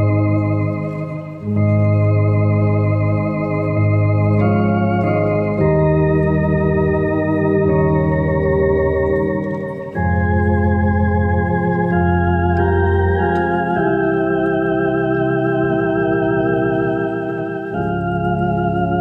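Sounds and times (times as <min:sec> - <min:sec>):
electronic organ playing a hymn: 0:00.0 - 0:19.0.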